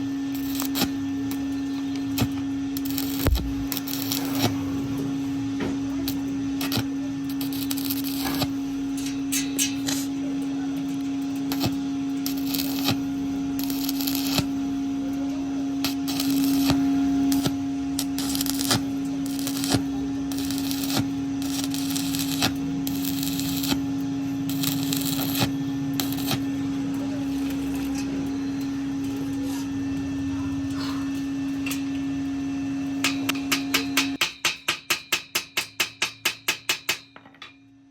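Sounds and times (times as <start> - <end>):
steady hum: 0.0 - 34.2
welding arc crackling: 0.0 - 34.2.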